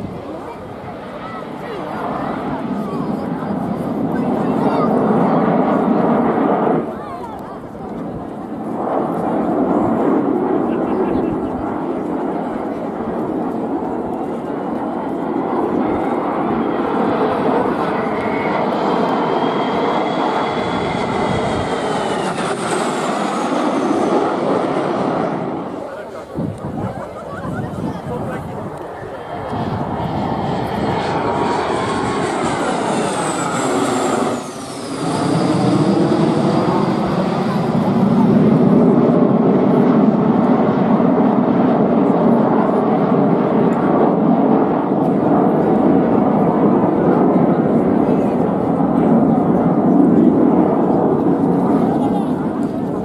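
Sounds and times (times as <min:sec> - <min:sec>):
jet passing by: 0:00.0 - 0:53.0.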